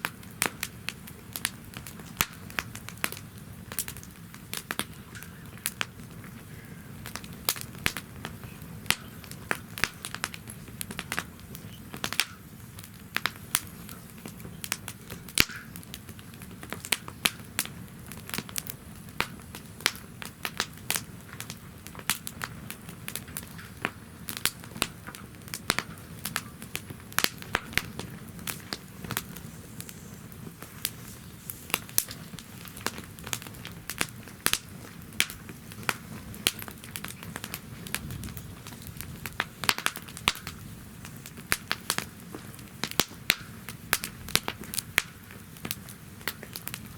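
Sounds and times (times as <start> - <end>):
campfire crackling and popping: 0.0 - 46.9
low rumble of flame: 0.0 - 46.9.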